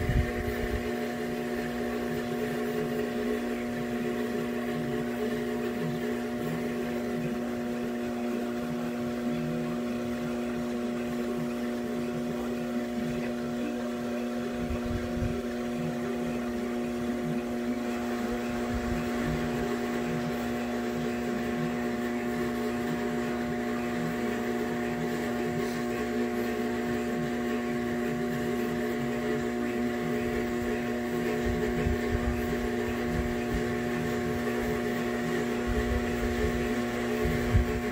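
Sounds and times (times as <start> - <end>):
electric motor humming: 0.0 - 37.9.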